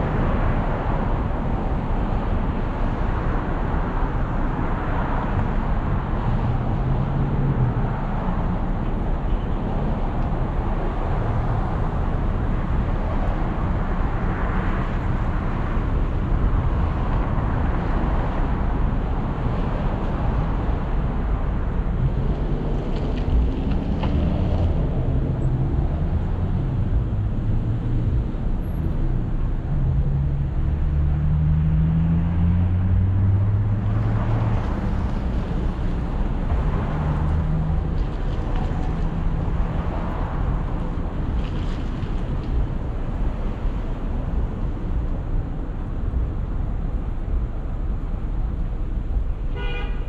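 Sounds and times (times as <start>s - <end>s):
road and tyre noise: 0.0s - 50.0s.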